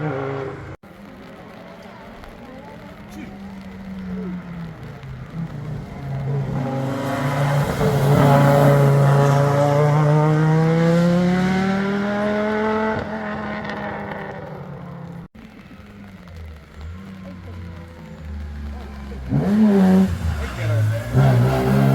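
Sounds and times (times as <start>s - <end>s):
rally car engine passing: 0.0s - 21.9s.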